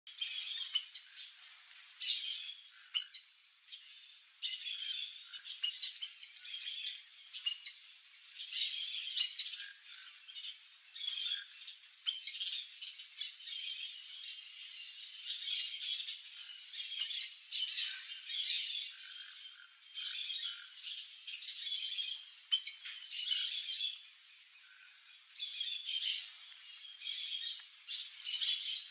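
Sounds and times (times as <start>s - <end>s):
birds chirping: 0.1s - 28.9s.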